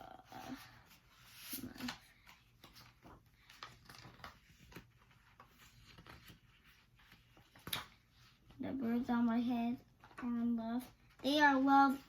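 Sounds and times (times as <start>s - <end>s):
faint clicks and rustles: 0.3s - 12.0s.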